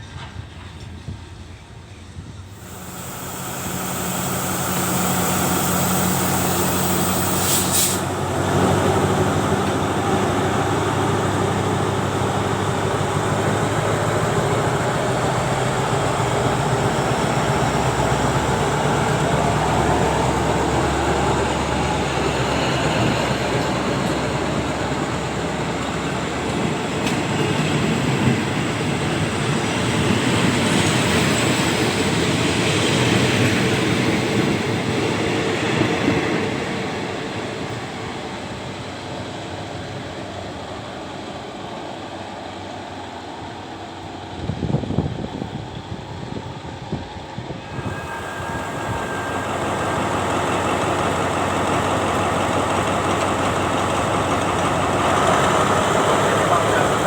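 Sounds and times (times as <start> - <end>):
diesel train rumbling past: 0.0 - 57.0.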